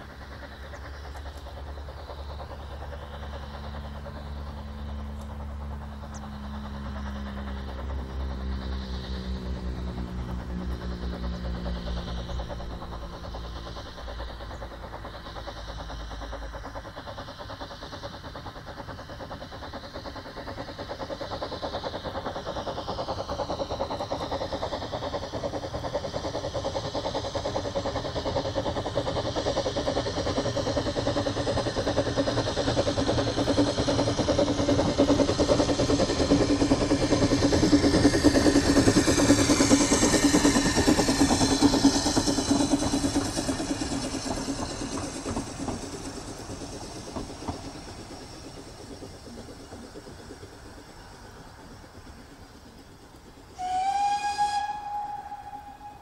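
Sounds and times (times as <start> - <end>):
steam locomotive passing: 0.0 - 56.0.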